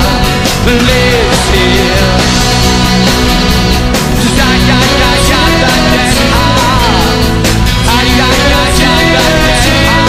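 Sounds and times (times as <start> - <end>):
electric guitar: 0.0 - 10.0
live rock band: 0.0 - 10.0
person singing: 0.0 - 10.0.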